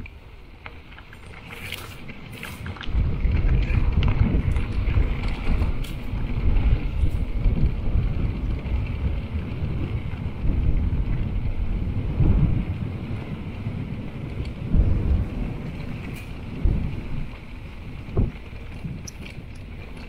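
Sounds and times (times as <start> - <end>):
bike clicks and rattles: 0.0 - 20.0
wind rumbling on microphone: 0.0 - 20.0.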